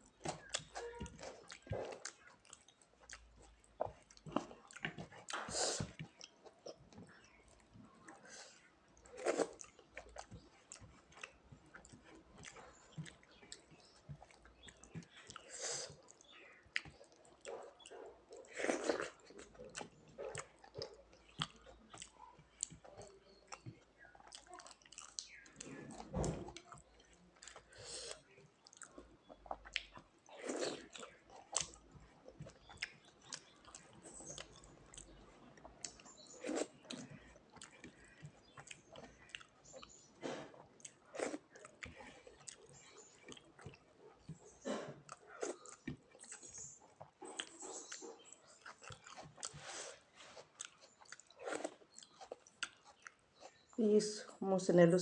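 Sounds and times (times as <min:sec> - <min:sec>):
person chewing food: 0:00.0 - 0:53.8
mouth smacks and clicks: 0:09.1 - 0:53.7.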